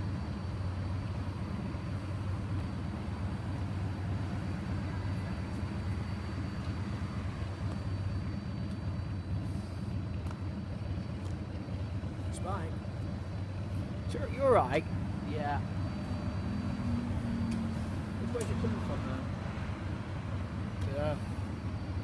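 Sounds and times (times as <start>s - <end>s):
low rumble of road vehicles: 0.0s - 22.0s.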